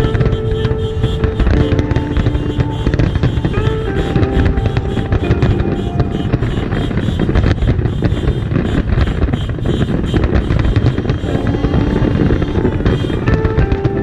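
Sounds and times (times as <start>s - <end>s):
music playing: 0.0s - 9.0s, 10.5s - 14.0s
fireworks bangs and crackles: 0.0s - 14.0s.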